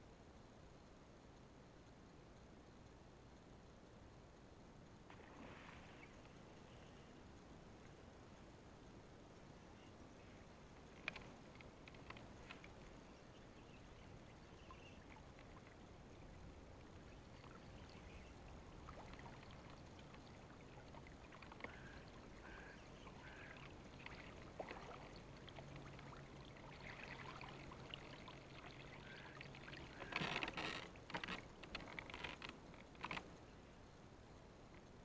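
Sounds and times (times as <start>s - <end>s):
faint river water: 0.0s - 35.0s.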